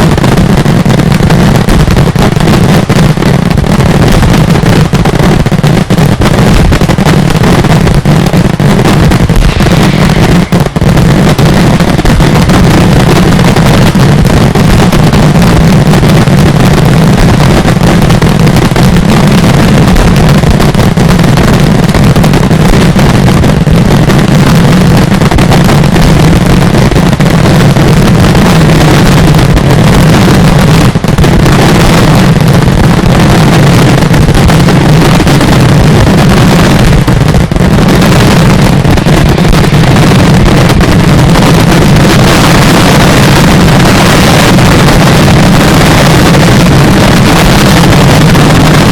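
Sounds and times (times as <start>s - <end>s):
fireworks explosions rumble: 0.0s - 48.9s.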